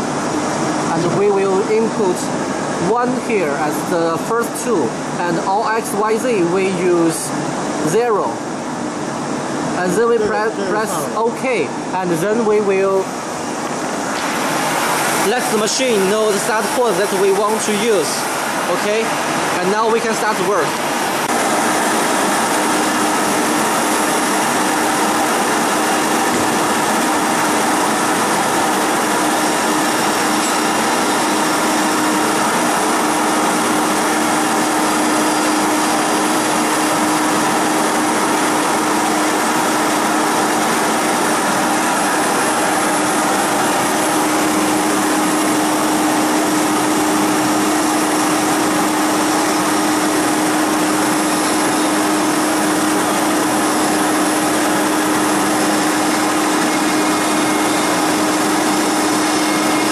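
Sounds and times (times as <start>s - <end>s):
broad machine noise: 0.0s - 59.9s.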